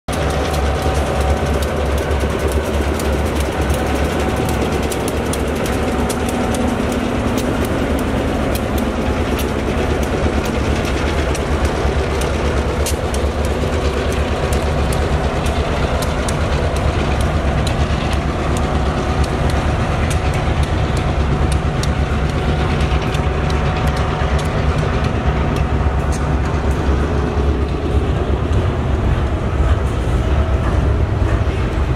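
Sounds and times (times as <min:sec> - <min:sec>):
freight train rumble: 0:00.1 - 0:31.9
wheels clicking over rail joints: 0:00.1 - 0:31.9.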